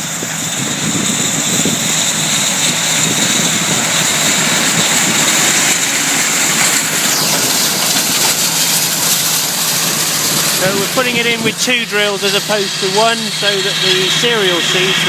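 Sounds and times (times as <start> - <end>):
high whine: 0.0 - 15.0
tractor engines running: 0.0 - 15.0
high tone sliding down: 0.4 - 15.0.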